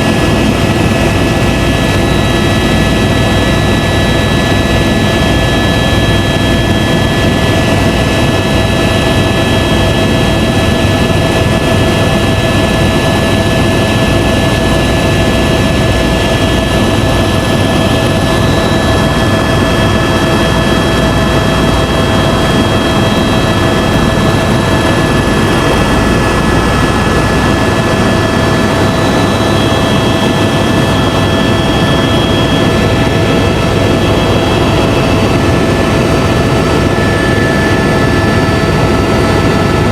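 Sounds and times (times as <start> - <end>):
constant high whine: 0.0 - 39.9
helicopter engine and rotor noise: 0.0 - 39.9.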